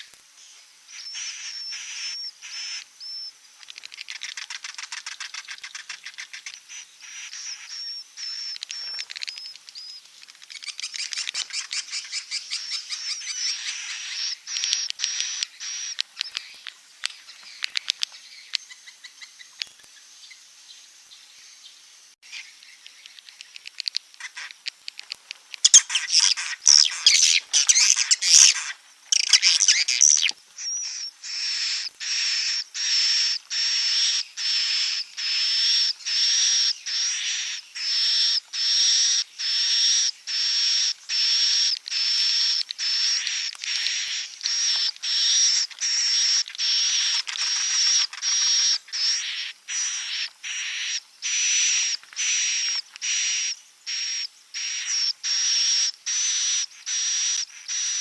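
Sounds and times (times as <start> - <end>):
birds chattering chirps: 0.0 - 58.0
rasping bird calls: 0.9 - 19.8, 22.2 - 58.0.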